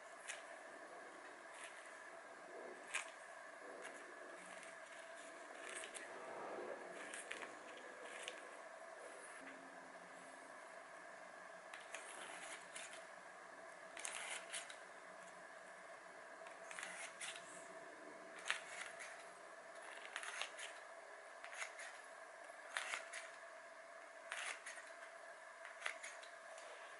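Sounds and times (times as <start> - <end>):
faint room hum: 0.0 - 26.9.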